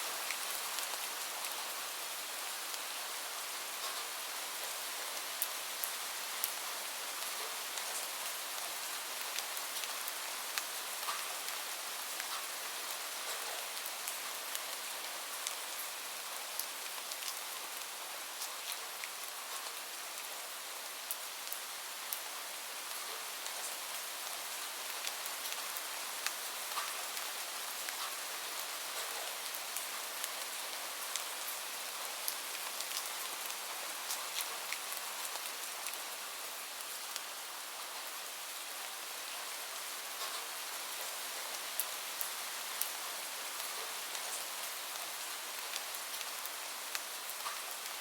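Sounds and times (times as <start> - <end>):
gentle rain: 0.0 - 48.0.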